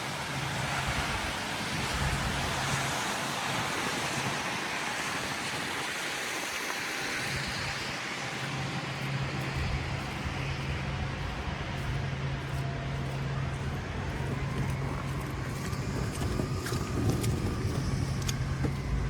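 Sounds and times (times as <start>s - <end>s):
hiss of passing vehicles: 0.0s - 19.0s
low engine hum: 0.0s - 19.0s.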